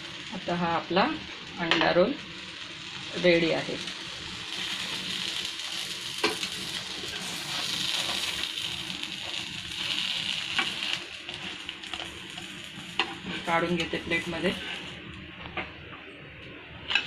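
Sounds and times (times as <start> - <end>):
food sizzling in a frying pan: 0.0 - 15.7.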